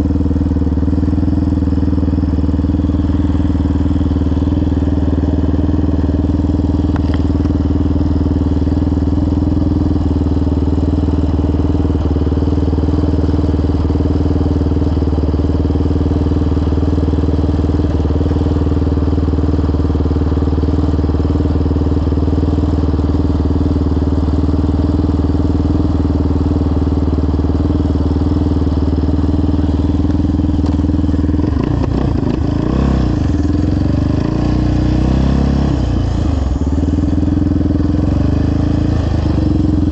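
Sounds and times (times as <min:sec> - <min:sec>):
quad engine idling and revving: 0:00.0 - 0:39.9.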